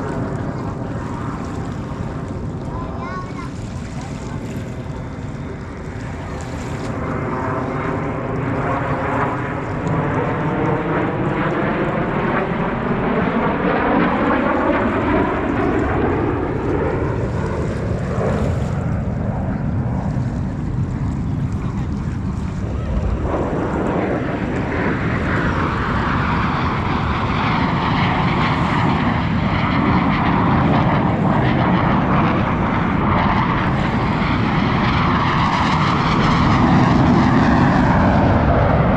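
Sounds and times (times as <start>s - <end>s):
jet aircraft engine roar: 0.0s - 38.9s.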